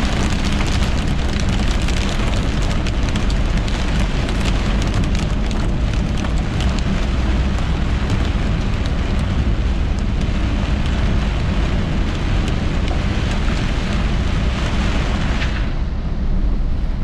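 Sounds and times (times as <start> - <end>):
rain ticking on glass: 0.0 - 15.4
heavy rain on car roof: 0.0 - 15.9
low vehicle rumble: 0.0 - 17.0.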